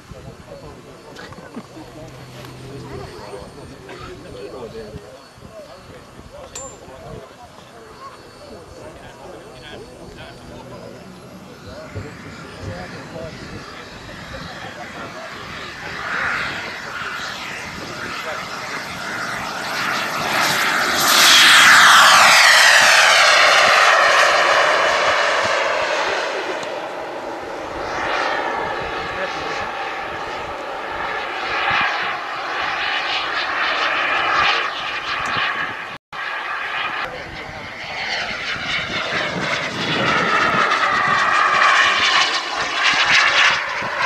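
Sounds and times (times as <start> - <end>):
model jet engine whine: 0.0 - 44.0.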